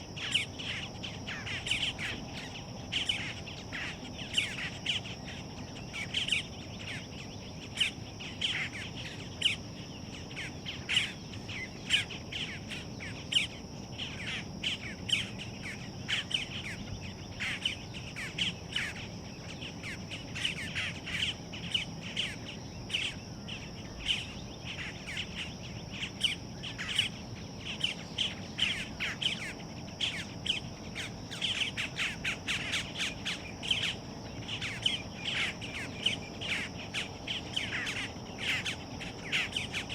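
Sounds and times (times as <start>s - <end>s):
bird fledglings chipping: 0.0s - 39.9s.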